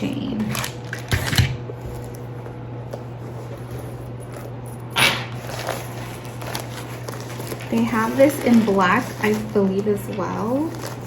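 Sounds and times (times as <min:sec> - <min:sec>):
steady low hum: 0:00.0 - 0:11.0
handbag rustling: 0:01.7 - 0:11.0.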